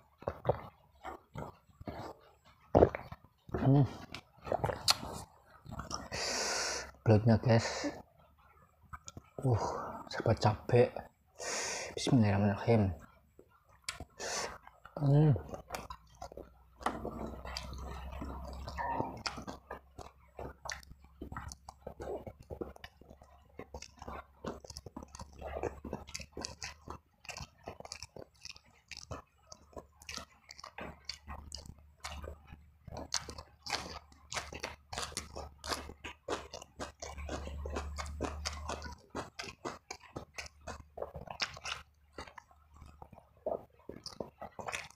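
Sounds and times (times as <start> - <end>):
chewing and crunching food: 0.0 - 44.9
wet mouth sounds: 0.1 - 12.1, 13.0 - 44.9.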